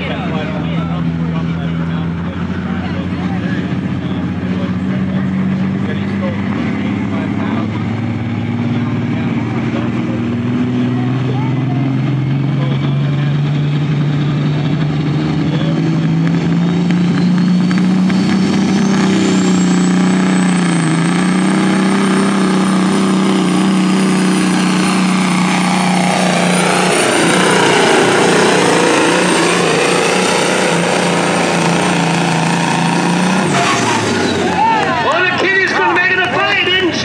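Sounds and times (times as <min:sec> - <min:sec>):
diesel truck engine at full throttle: 0:00.0 - 0:37.0.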